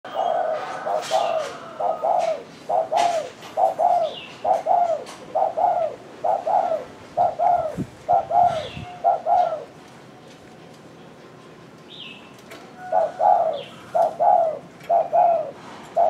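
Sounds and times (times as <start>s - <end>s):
dove cooing: 0.1s - 9.8s, 12.8s - 16.0s.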